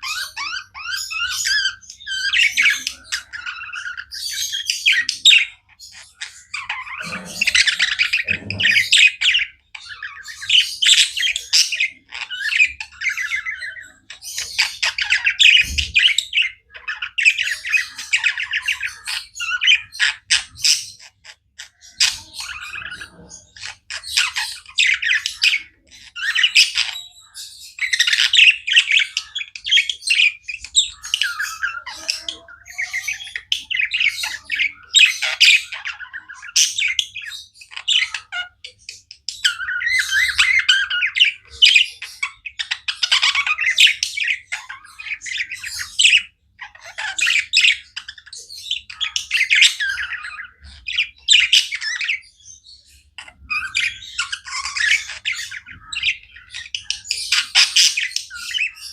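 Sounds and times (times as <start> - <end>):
budgies chirping and warbling: 0.0 - 58.9.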